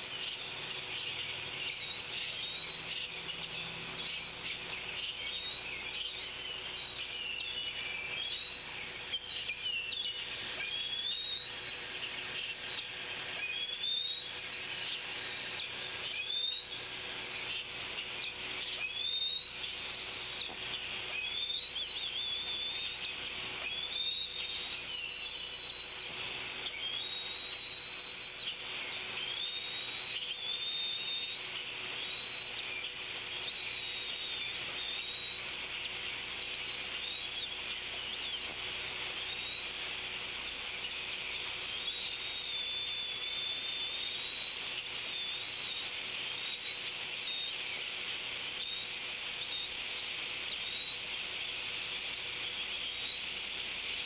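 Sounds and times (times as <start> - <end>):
background birdsong: 0.0 - 54.0
high whistled bird call: 0.0 - 54.0.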